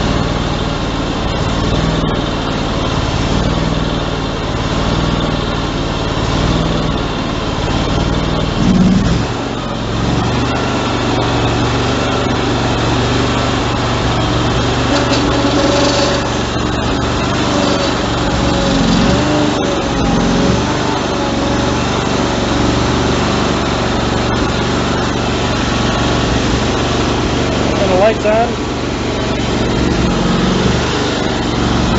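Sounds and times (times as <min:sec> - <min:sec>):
garden tractor engine surging: 0:00.0 - 0:31.9.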